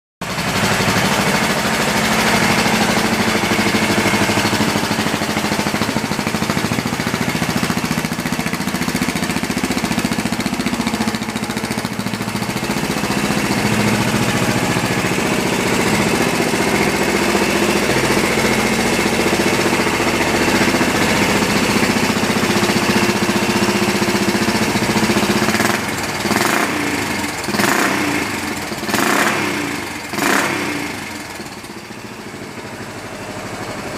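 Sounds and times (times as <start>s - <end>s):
motorcycle engine idling and revving: 0.2s - 33.9s.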